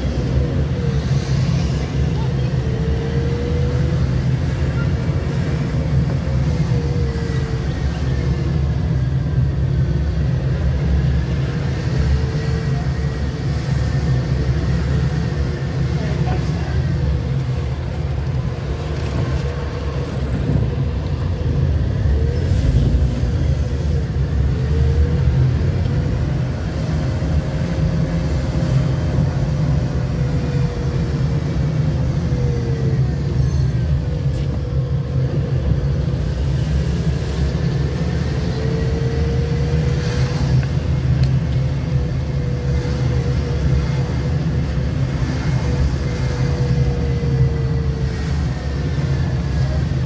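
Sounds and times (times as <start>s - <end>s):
car driving rumble: 0.0s - 50.0s.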